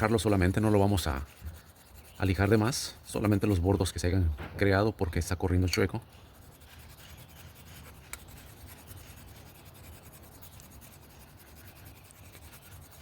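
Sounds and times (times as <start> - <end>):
sandpaper scratching on metal: 0.0 - 4.2, 5.3 - 13.0.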